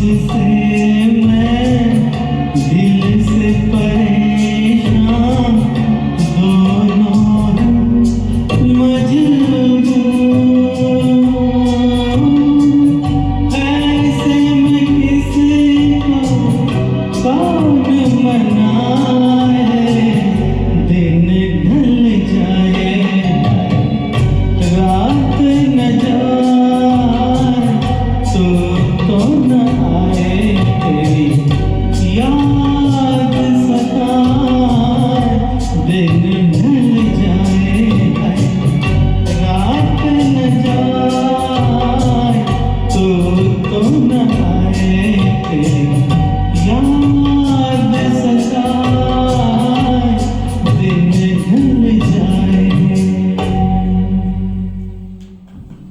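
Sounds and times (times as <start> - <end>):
man singing long held notes: 0.0 - 55.2
karaoke backing track with beat: 0.0 - 55.9.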